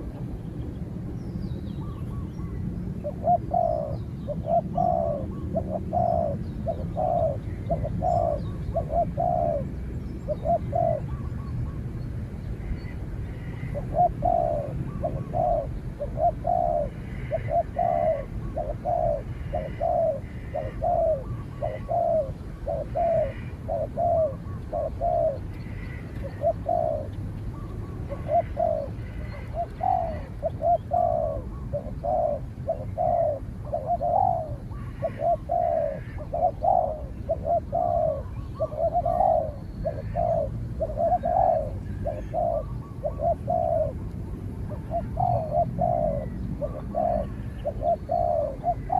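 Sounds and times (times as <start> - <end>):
dove cooing: 0.0 - 0.4, 1.9 - 11.8, 12.8 - 48.9.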